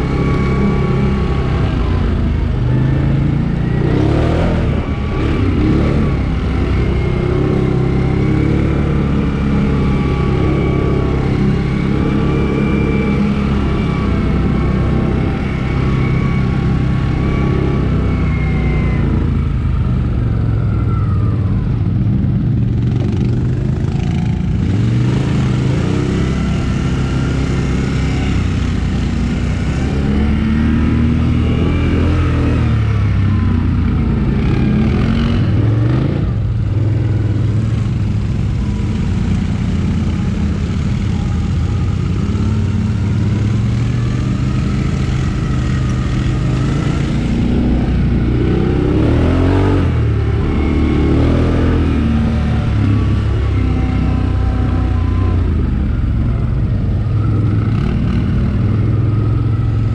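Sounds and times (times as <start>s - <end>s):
quad bike engine revving: 0.0s - 20.2s, 22.2s - 59.9s.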